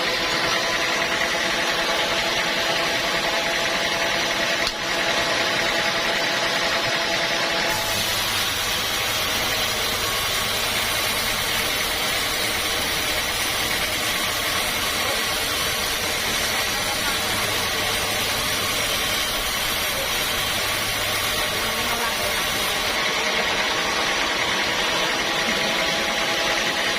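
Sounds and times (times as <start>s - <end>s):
sawmill machinery humming: 0.0s - 26.9s.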